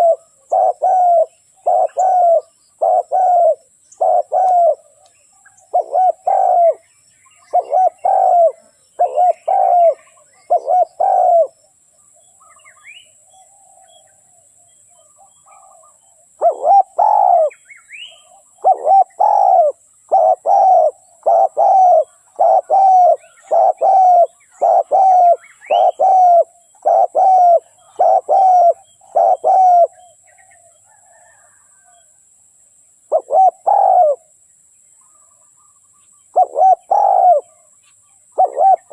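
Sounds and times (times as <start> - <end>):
dove cooing: 0.0 - 11.6, 15.0 - 32.1, 33.1 - 34.3, 36.3 - 37.7, 38.3 - 38.9
small birds chirping: 0.0 - 32.0, 33.0 - 38.9.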